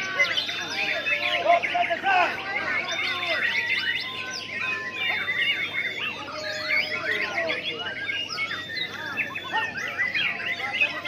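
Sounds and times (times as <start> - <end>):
birds singing whistles and trills: 0.0 - 11.0.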